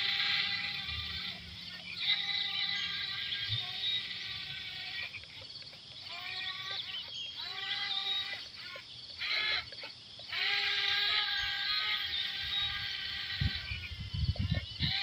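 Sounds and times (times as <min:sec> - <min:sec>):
bleat-like animal cries: 0:00.0 - 0:05.2, 0:06.0 - 0:15.0.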